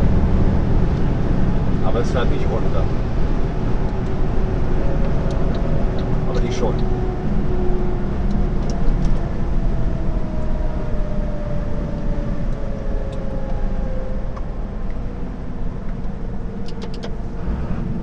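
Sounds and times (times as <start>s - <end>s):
engine and road rumble: 0.0s - 18.0s
faint whine: 0.0s - 18.0s.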